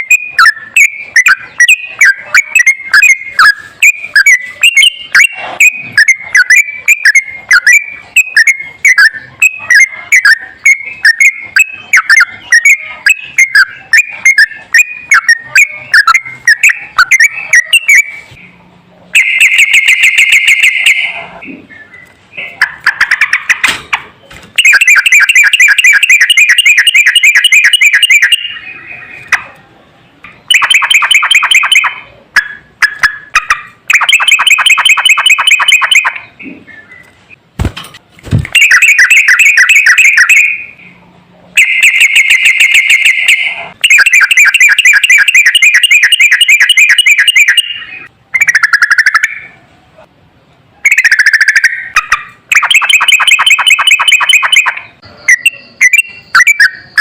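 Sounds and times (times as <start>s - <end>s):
bulbul singing rapid notes: 0.0s - 29.5s, 30.3s - 37.4s, 38.3s - 41.0s, 41.6s - 49.5s, 50.9s - 57.0s.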